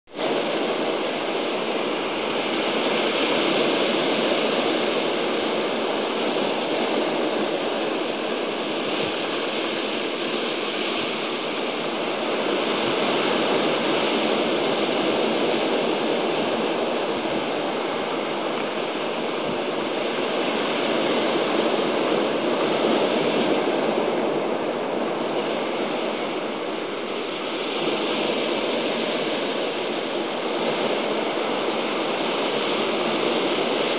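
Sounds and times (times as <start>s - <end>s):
sea surf washing over rocks: 0.1s - 33.9s.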